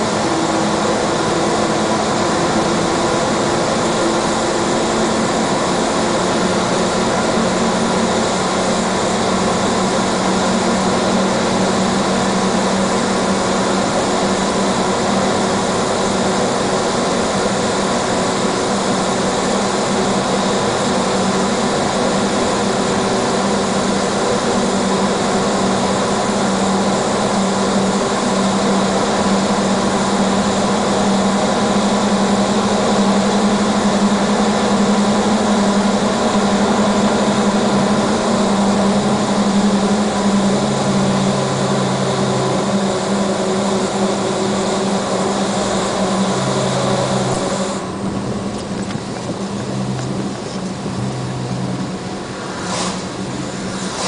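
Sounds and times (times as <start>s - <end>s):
constant low hum: 0.0s - 54.0s
lower hum: 0.0s - 54.0s
vehicle engine drone and road noise: 0.0s - 54.0s.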